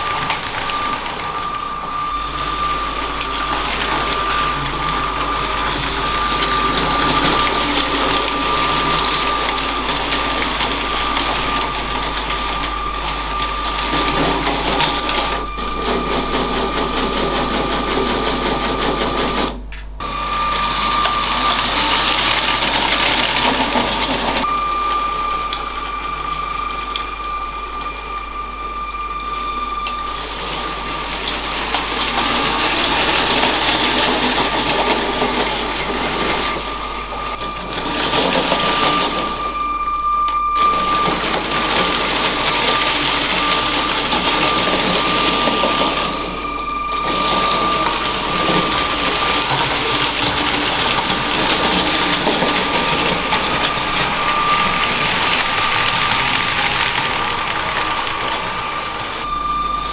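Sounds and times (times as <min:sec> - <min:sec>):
toy train motor whining: 0:00.0 - 0:59.9
wheels clattering on plastic track: 0:00.0 - 0:59.9.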